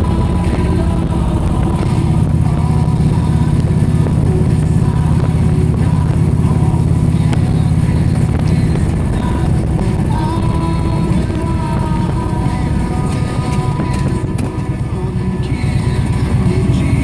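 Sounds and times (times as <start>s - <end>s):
engine running low drone: 0.0s - 17.0s.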